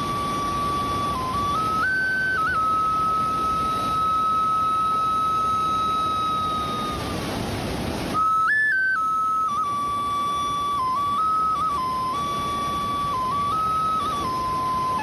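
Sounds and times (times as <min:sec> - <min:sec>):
flute notes: 0:00.0 - 0:15.0
waterfall rushing: 0:00.0 - 0:15.0.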